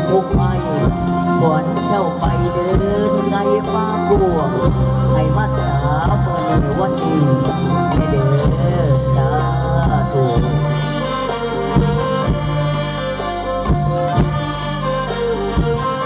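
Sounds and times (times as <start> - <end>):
drone notes: 0.0 - 16.0
gliding melody: 0.0 - 16.0.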